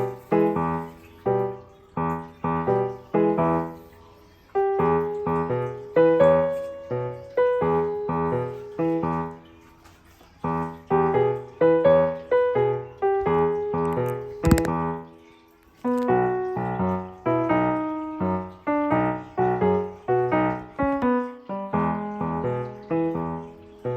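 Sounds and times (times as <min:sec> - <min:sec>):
gentle piano chords: 0:00.0 - 0:23.9.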